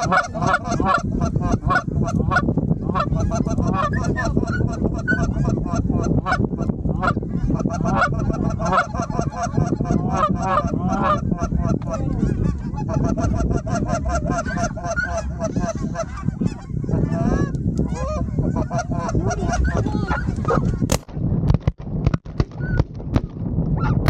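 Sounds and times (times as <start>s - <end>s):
geese honking: 0.0s - 20.9s.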